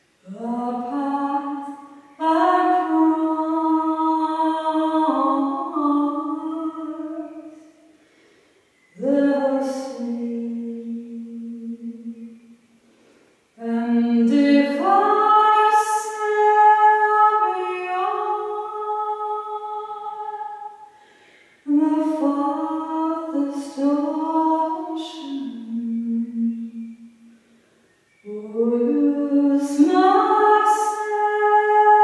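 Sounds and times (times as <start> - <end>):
woman singing unaccompanied: 0.2 - 7.8, 8.9 - 12.5, 13.6 - 21.0, 21.6 - 27.1, 28.2 - 32.0.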